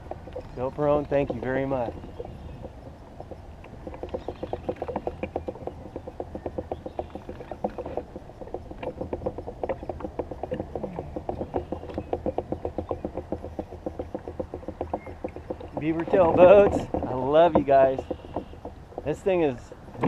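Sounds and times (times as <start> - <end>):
low steady rumble: 0.0 - 20.0
water slapping against boat hull: 0.0 - 20.0.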